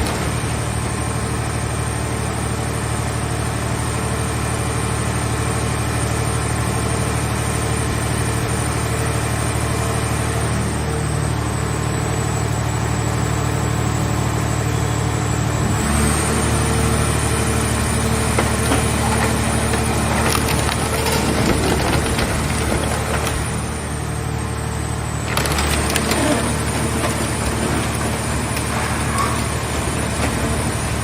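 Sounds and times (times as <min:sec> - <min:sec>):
hydraulic power unit humming: 0:00.0 - 0:03.1, 0:07.2 - 0:31.0.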